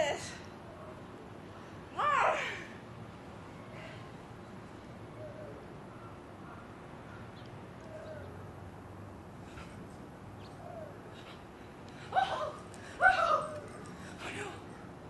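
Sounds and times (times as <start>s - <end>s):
low steady outdoor hum: 0.0s - 15.0s.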